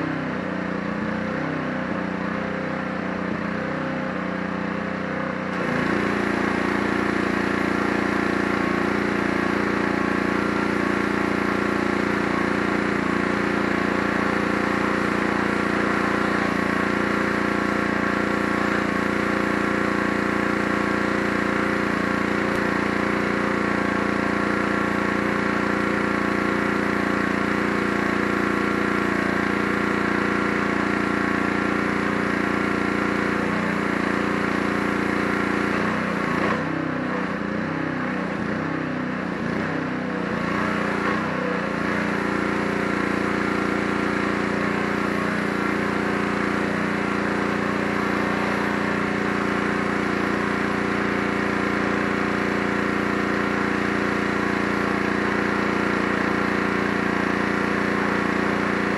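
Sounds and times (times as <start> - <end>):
pressure washer engine running: 0.0 - 58.9.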